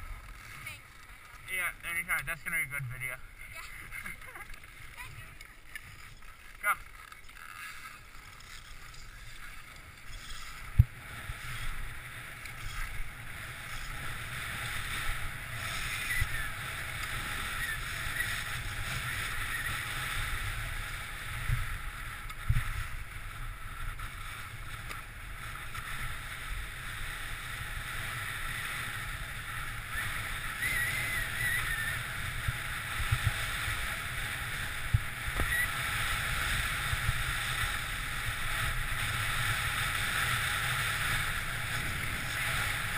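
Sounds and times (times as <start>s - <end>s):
skis scraping over snow: 0.0s - 42.9s
wind rumbling on microphone: 7.8s - 42.9s.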